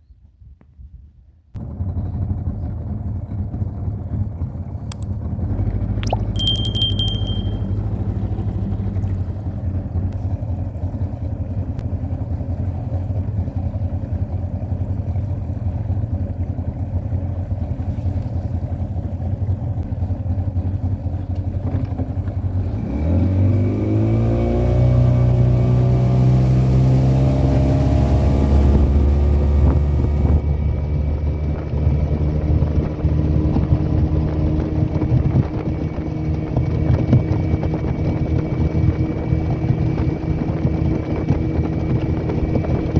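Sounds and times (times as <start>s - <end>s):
boat motor running: 1.7s - 42.9s.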